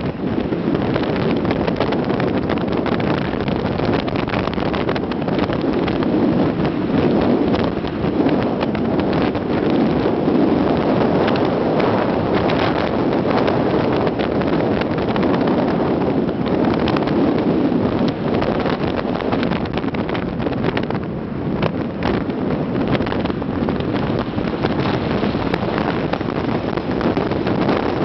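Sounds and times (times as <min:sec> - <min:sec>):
truck engine and tyre noise: 0:00.0 - 0:28.0
wind rushing over microphone: 0:00.0 - 0:28.0.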